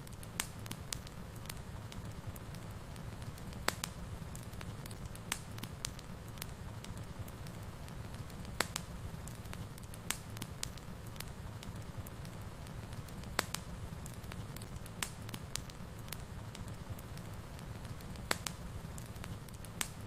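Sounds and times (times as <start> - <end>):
fire crackling and popping: 0.0 - 20.0
wood fire burning: 0.0 - 20.0.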